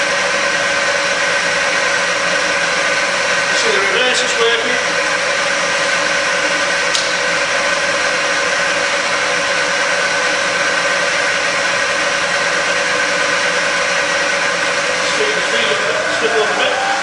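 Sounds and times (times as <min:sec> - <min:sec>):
milling machine humming and whining: 0:00.0 - 0:17.0.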